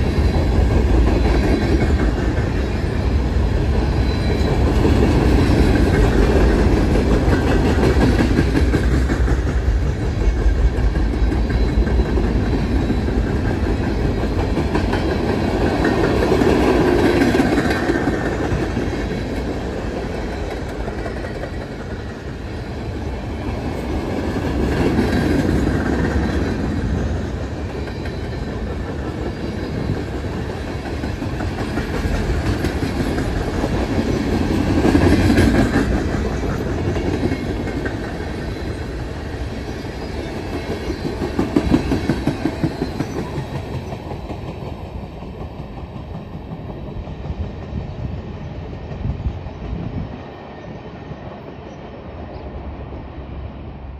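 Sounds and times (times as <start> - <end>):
wheels clickety-clack over rail joints: 0.0 - 53.2
freight train rumbling on rails: 0.0 - 53.9.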